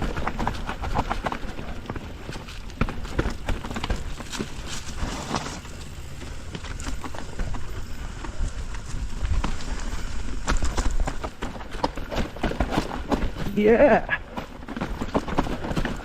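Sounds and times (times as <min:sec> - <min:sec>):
bike knocks and rattles: 0:00.0 - 0:16.0
bike tyres rumbling over dirt: 0:00.0 - 0:16.0.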